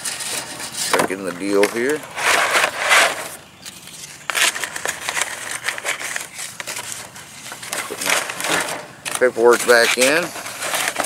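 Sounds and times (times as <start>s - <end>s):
cardboard and paper rustling: 0.0s - 11.0s.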